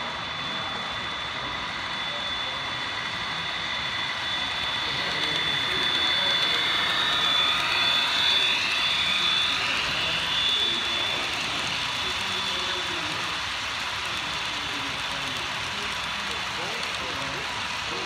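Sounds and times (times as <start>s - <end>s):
model train running with whine: 0.0s - 18.0s.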